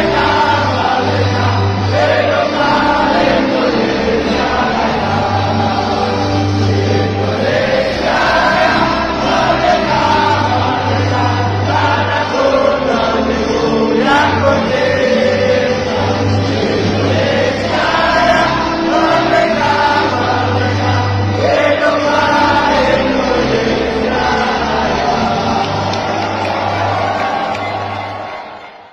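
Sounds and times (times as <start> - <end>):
choral singing: 0.0 - 28.9.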